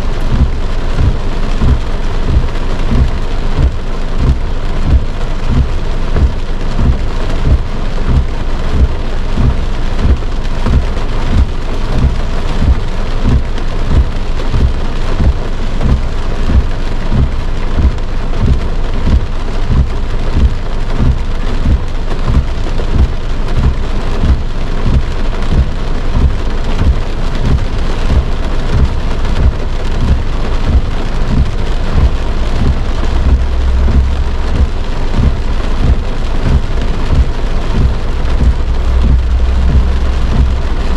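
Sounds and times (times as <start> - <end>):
heavy rain on car roof: 0.0 - 40.9
low hum: 0.0 - 40.9.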